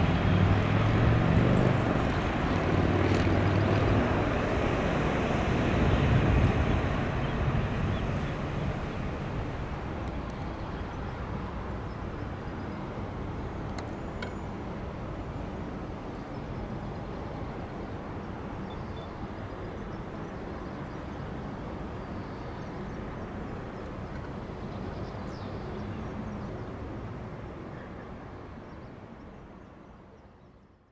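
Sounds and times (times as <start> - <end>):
jet engines deep rumble: 0.0 - 27.5.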